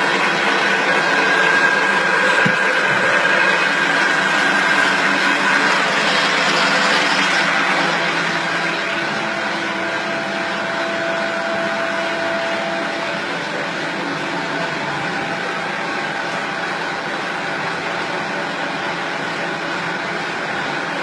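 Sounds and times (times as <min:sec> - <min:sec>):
loud mechanical running noise: 0:00.0 - 0:21.0.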